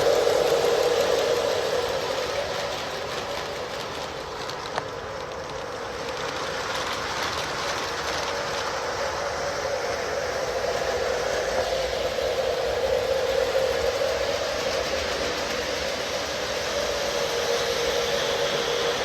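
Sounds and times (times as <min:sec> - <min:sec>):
model train motors whirring: 0:00.0 - 0:19.0.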